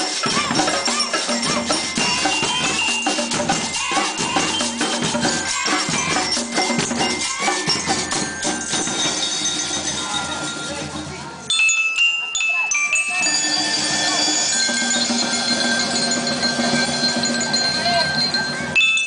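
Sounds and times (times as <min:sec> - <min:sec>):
bell lyre notes: 0:00.0 - 0:19.0
drums and shaker percussion: 0:00.0 - 0:19.0.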